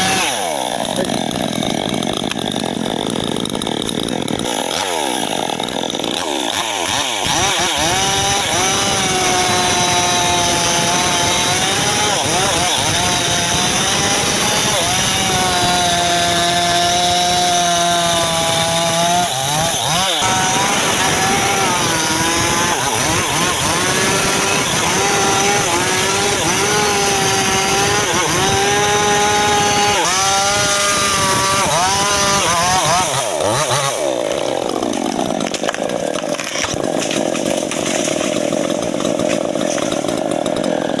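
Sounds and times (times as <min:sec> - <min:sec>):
chainsaw sawing wood: 0:00.0 - 0:41.0.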